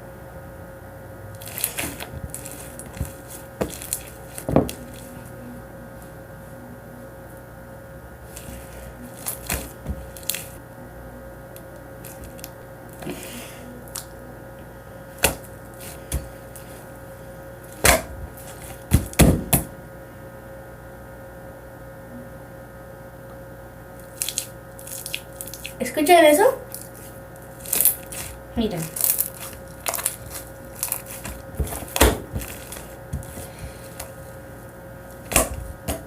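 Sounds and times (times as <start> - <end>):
faint hum: 0.0 - 36.0.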